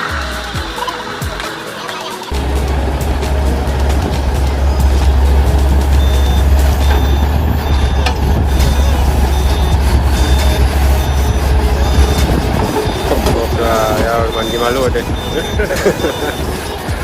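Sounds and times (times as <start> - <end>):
low engine rumble: 2.3 - 17.0
reversing alarm beeping: 2.3 - 17.0.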